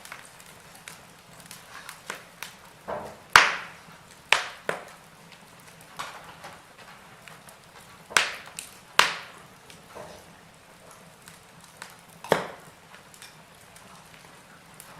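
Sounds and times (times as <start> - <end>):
faint steady hiss: 0.0 - 14.9
logs crackling in fireplace: 0.0 - 14.9
sharp fire pops: 0.0 - 14.9.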